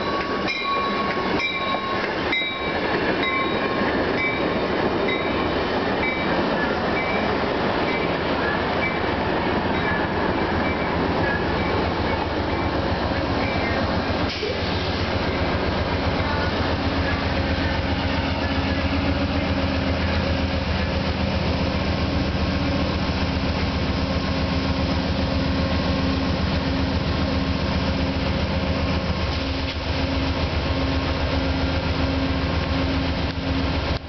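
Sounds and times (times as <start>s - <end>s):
diesel locomotive idling: 0.0s - 34.0s.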